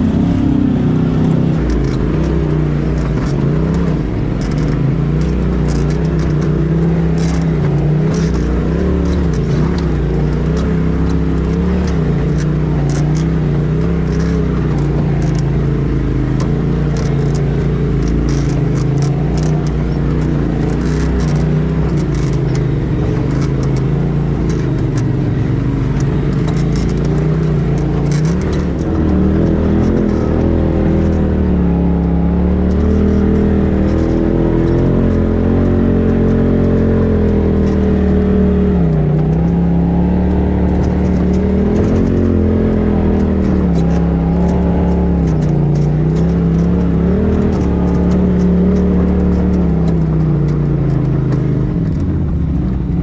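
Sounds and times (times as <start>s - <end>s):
off-road vehicle engine revving: 0.0s - 53.0s
light clicks and rattles: 1.2s - 53.0s.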